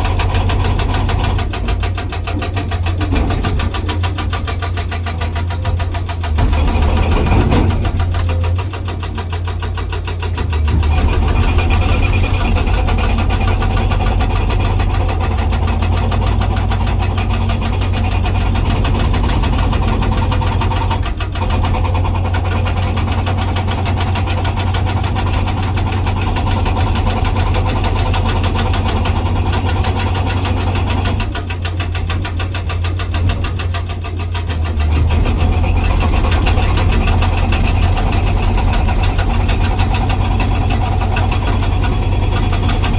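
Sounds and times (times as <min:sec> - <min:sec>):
excavator diesel engine drone: 0:00.0 - 0:42.9
hydraulic breaker hammering rock: 0:00.0 - 0:42.9.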